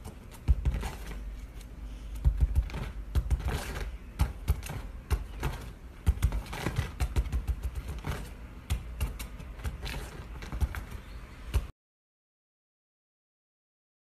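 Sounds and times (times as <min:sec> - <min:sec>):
squirrel thumping and scrabbling: 0:00.0 - 0:11.7.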